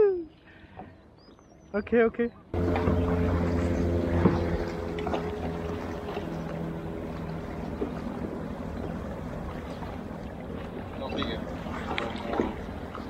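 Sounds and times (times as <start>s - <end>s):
water lapping against hull: 2.4s - 13.0s.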